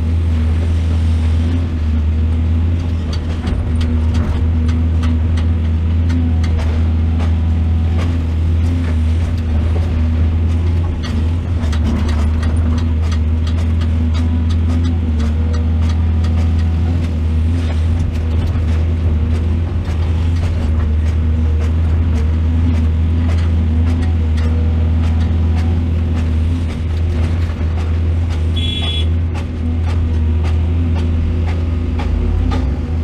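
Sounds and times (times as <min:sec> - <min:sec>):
excavator diesel engine running: 0:00.0 - 0:33.0
short knocks and clanks: 0:02.7 - 0:33.0.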